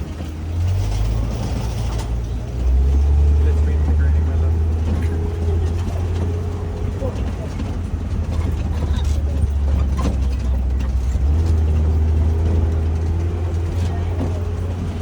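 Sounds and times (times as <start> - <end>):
truck engine and road rumble: 0.0 - 15.0
vehicle knocks and rattles: 0.0 - 15.0.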